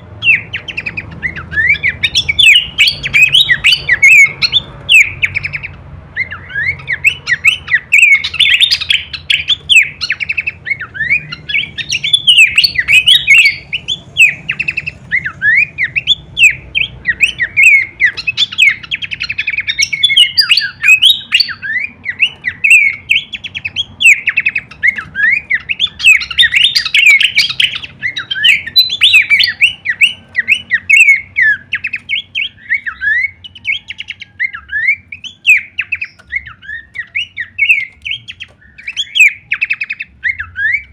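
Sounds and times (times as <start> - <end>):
bird singing chirps and whistles: 0.0 - 40.9.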